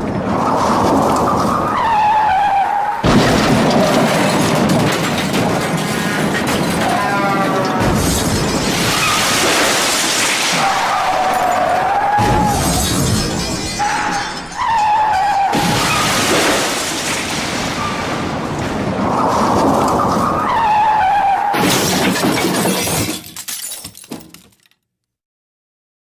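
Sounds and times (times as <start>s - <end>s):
crashing and shattering: 0.0s - 24.8s.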